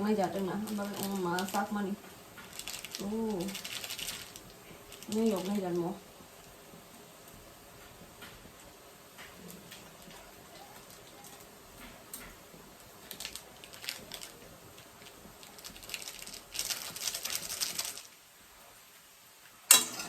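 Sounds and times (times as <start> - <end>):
rustling hiss: 0.0 - 20.0.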